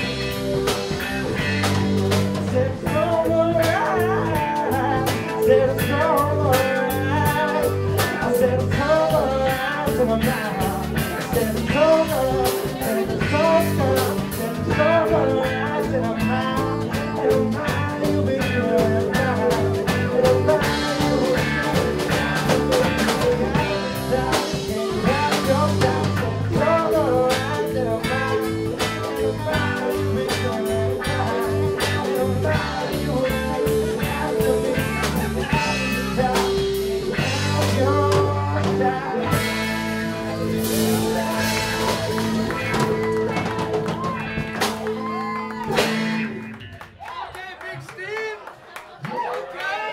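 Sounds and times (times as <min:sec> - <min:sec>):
man singing: 0:00.0 - 0:45.2
live rock band playing: 0:00.0 - 0:46.9.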